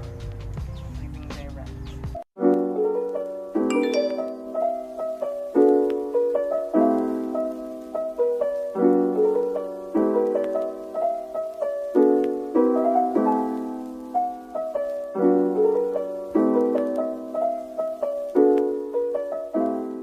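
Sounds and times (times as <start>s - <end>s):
slow piano chords: 2.4s - 20.0s.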